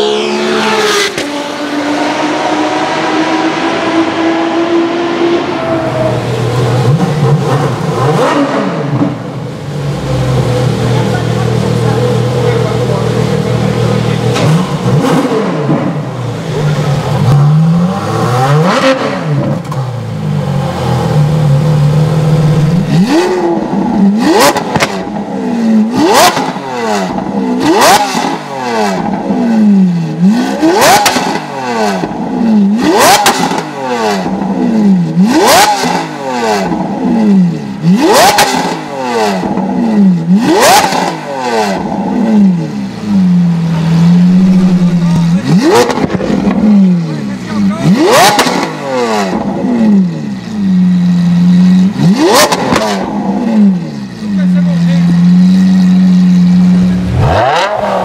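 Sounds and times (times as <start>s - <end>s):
car engine revving hard: 0.0s - 58.0s
car engine idling: 5.4s - 58.0s
exhaust crack: 5.6s - 58.0s.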